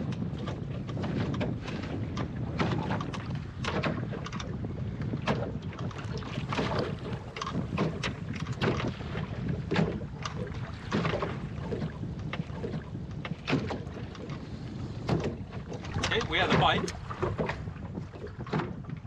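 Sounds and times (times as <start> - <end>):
water slapping against hull: 0.0 - 19.0
wind on microphone: 0.0 - 19.0.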